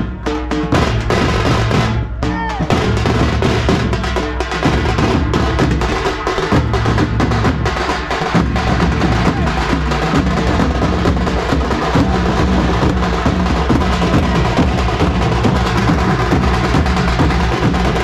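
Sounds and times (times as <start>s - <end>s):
barrel drums played with sticks: 0.0s - 18.0s.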